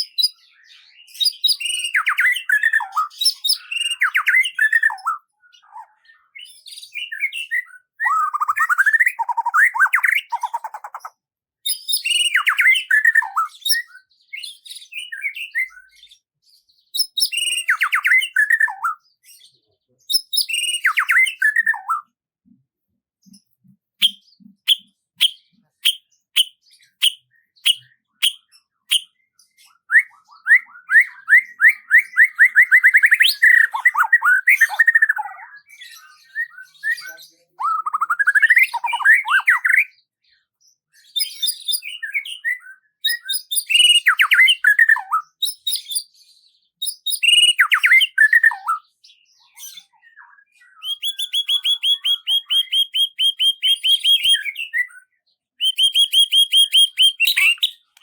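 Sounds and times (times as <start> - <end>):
songbird singing: 0.0 - 22.6, 23.2 - 58.0.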